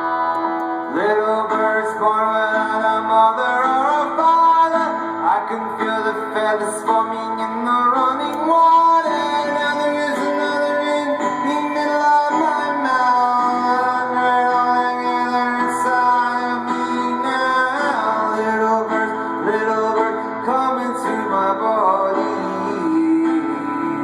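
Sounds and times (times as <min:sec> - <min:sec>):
acoustic guitar: 0:00.0 - 0:24.0
man singing: 0:00.8 - 0:24.0.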